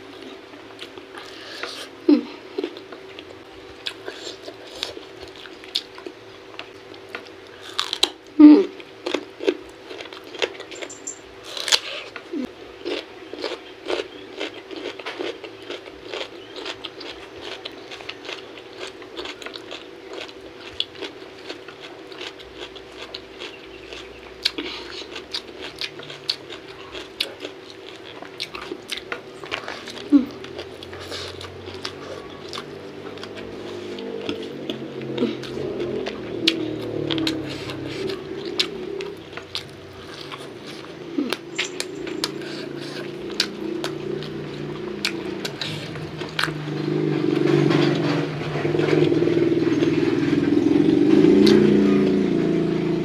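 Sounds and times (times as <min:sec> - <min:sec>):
chewing with mouth clicks: 0:02.5 - 0:50.2.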